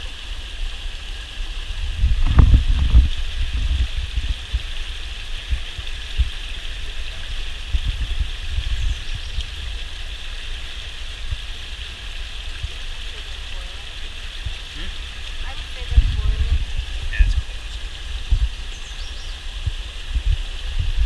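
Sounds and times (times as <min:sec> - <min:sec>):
river rushing: 0:00.0 - 0:21.0
low rumbling: 0:01.4 - 0:21.0.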